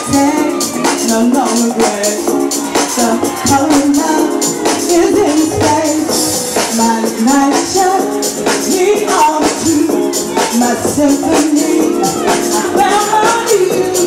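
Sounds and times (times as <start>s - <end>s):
woman singing over house music: 0.0s - 14.0s.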